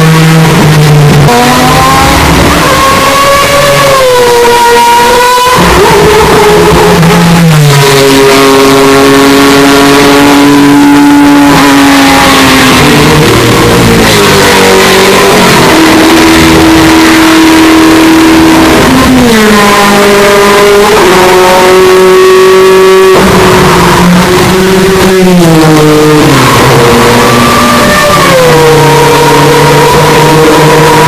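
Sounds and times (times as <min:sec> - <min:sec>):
rotary engine revving: 0:00.0 - 0:31.0.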